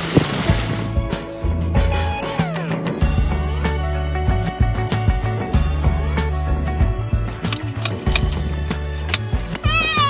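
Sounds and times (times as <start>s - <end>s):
music with bass line and beat: 0.0s - 10.0s.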